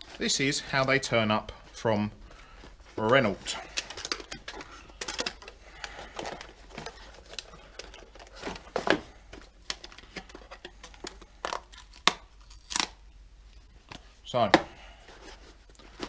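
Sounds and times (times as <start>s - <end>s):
wrapping rustling and crinkling: 0.0s - 16.0s.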